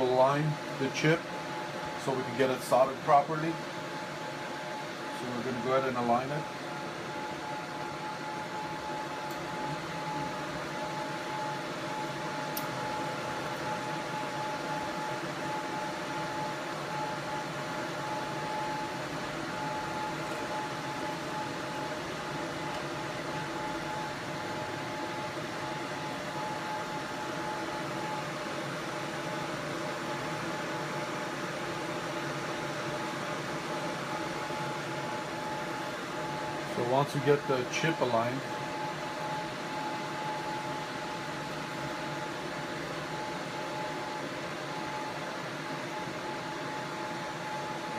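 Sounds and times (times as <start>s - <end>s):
fan hum: 0.0s - 47.9s
mid-pitched whine: 0.0s - 47.9s.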